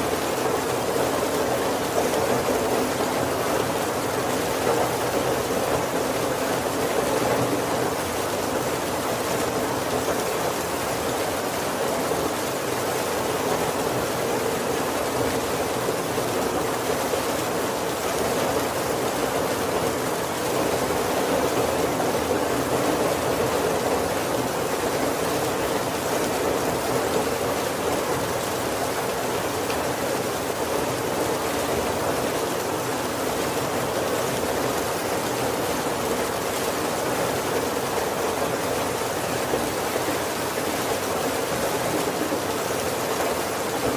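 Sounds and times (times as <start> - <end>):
heavy rain on a wooden roof: 0.0 - 43.9.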